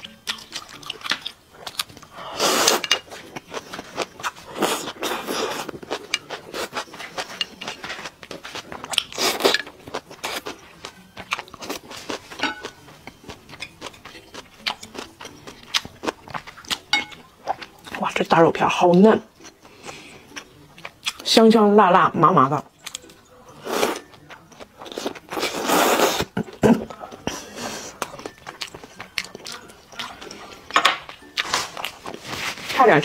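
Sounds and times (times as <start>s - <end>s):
crunching chewing: 0.0s - 18.0s, 19.4s - 21.2s, 22.7s - 32.7s.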